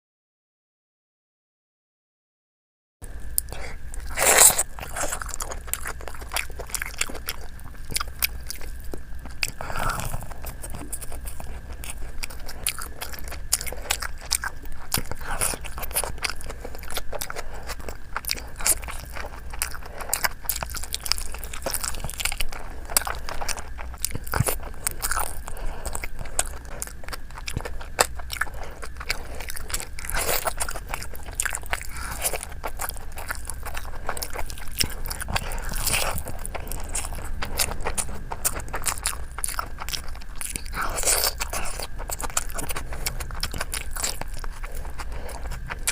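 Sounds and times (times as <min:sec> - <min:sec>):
faint steady hum: 0:03.0 - 0:45.9
person chewing crunchy food: 0:03.0 - 0:45.9.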